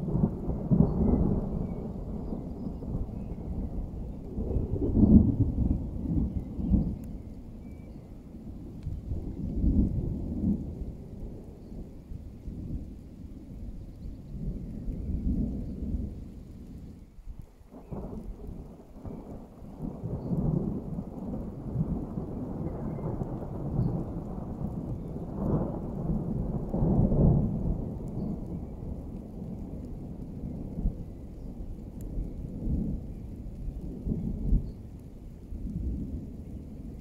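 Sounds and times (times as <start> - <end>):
rolling thunder: 0.0 - 7.8, 8.5 - 16.9, 17.7 - 37.0.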